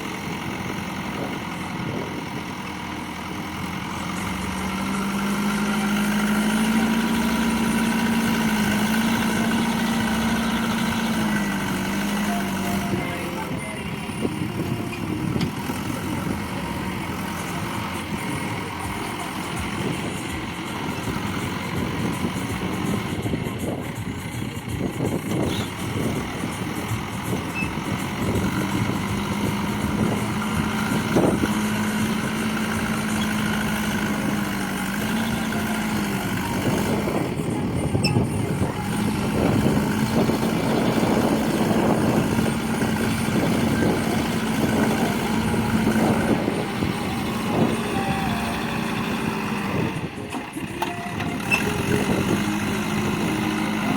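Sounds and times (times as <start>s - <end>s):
diesel engine drone: 0.0s - 53.9s.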